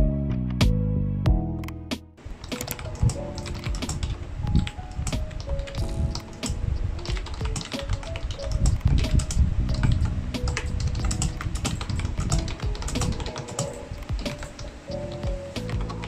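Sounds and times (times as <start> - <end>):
soft background music: 0.0 - 16.0
mechanical keyboard typing: 2.4 - 16.0.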